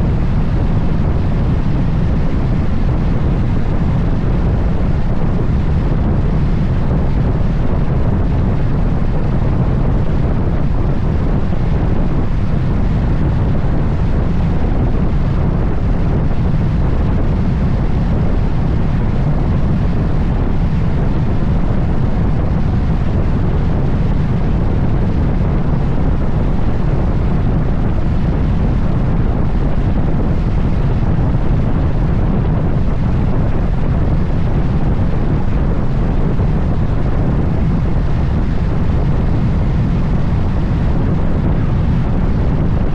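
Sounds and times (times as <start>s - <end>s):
wind rushing over microphone: 0.0s - 42.9s.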